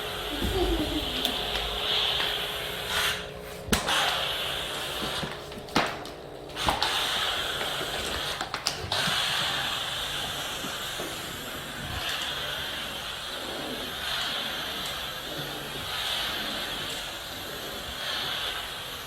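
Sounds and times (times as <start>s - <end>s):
steam cleaner hissing: 0.0s - 19.0s.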